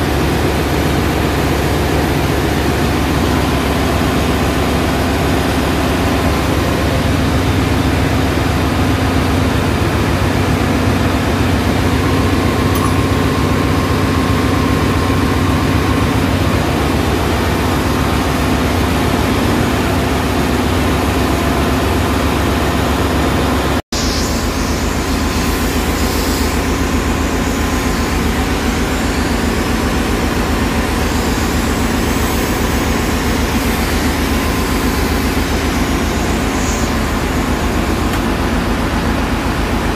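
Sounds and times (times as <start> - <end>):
engine room machinery drone: 0.0 - 39.9.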